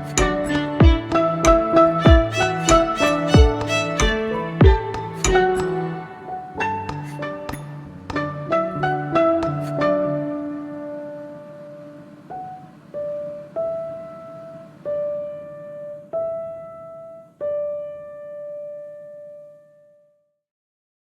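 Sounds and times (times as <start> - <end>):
slow piano melody: 0.0 - 20.1.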